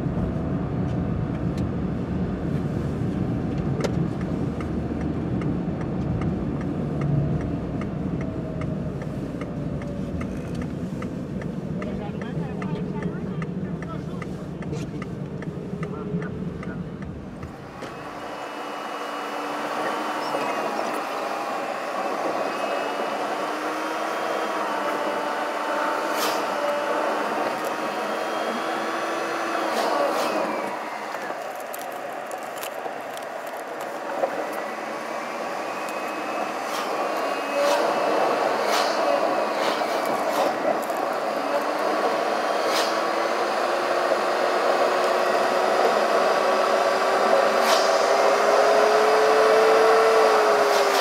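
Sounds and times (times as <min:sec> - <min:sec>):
car engine and road noise: 0:00.0 - 0:51.0.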